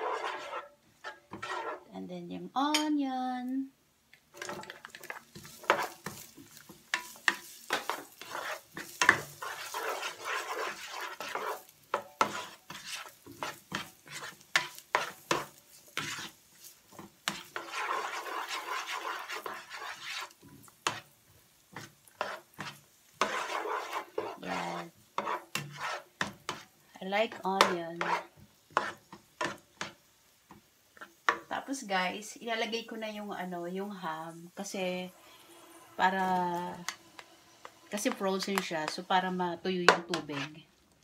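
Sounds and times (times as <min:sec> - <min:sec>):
spatula scraping and knocking pan: 0:00.0 - 0:01.9, 0:04.3 - 0:31.6, 0:35.4 - 0:40.6
onion and bacon sizzling: 0:00.0 - 0:41.0.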